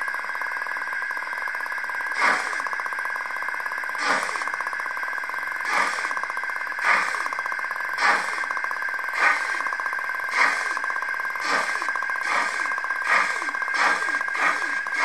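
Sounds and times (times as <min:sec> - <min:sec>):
model steam locomotive chuffs: 0:00.0 - 0:15.0
steady motor hum: 0:00.0 - 0:15.0.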